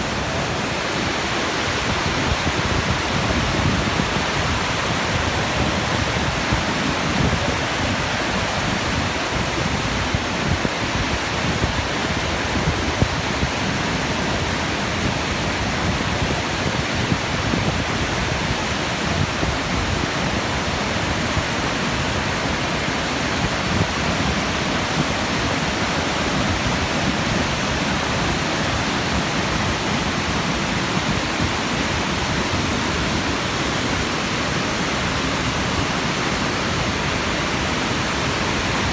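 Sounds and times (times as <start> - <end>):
waterfall onto rocks: 0.0 - 38.9.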